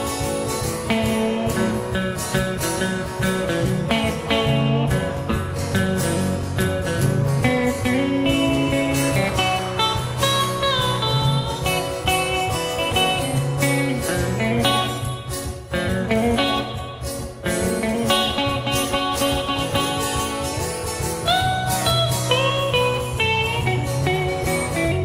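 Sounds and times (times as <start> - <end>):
blues guitar solo: 0.0 - 25.0
low backing music: 0.0 - 25.0.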